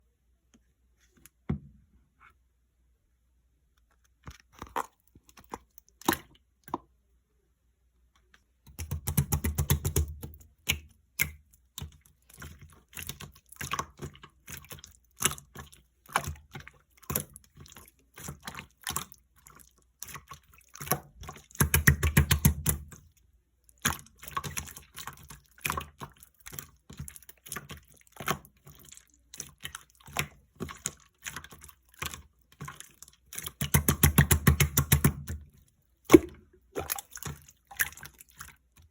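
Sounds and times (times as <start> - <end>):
slime squishing: 3.8 - 7.0, 8.1 - 38.9.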